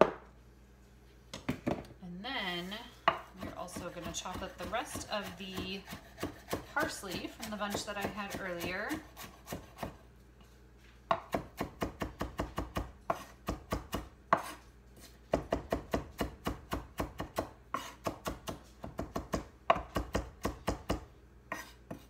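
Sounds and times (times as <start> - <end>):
knife chopping on wooden board: 3.0 - 10.0, 11.1 - 22.0.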